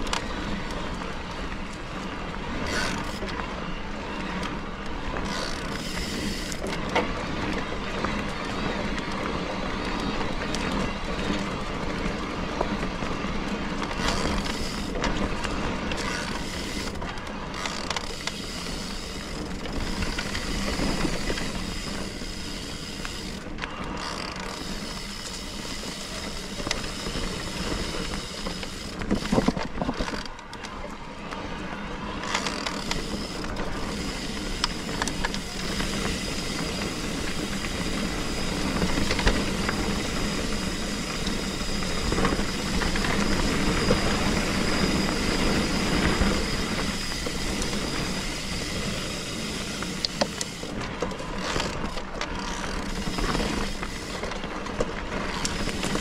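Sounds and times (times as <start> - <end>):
bike drivetrain rattles and clicks: 0.0 - 56.0
tyre and wind rumble: 0.0 - 56.0.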